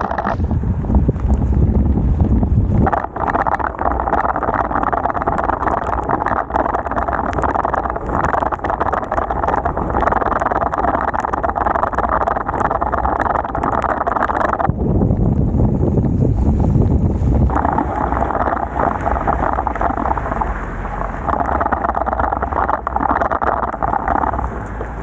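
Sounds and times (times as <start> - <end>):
heavy rain on wet road: 0.0 - 13.6, 14.2 - 25.0
small crackling ticks: 1.0 - 2.0, 2.6 - 25.0.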